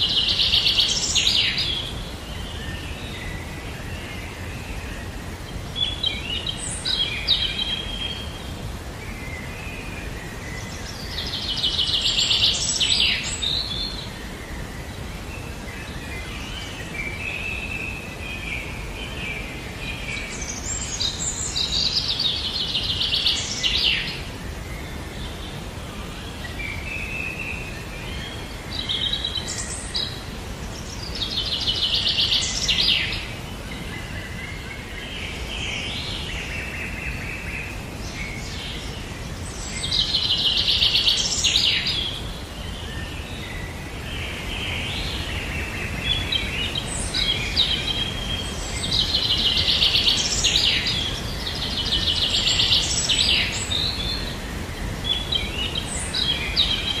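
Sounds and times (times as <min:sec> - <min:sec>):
background noise: 0:00.0 - 0:57.0.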